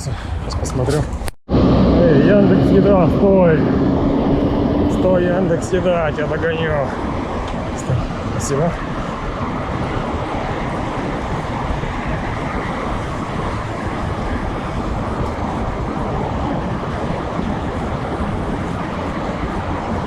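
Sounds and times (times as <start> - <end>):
road rumble: 0.0 - 20.0
wind over microphone: 0.0 - 20.0.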